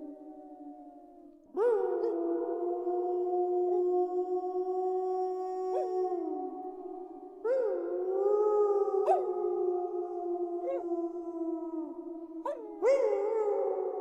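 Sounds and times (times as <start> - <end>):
wolves howling: 0.0 - 14.0.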